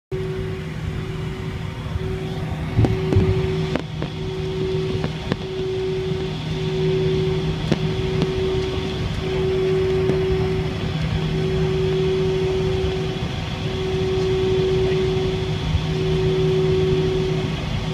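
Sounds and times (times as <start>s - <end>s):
airliner engines humming: 0.1s - 17.9s.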